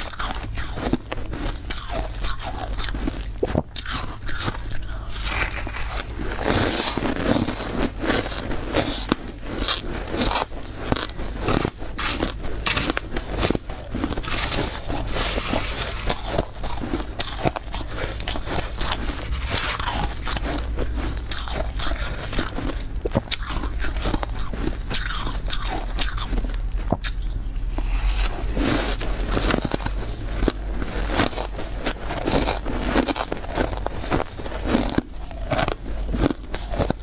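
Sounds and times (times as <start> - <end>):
chewing crunchy ice: 0.0 - 37.0.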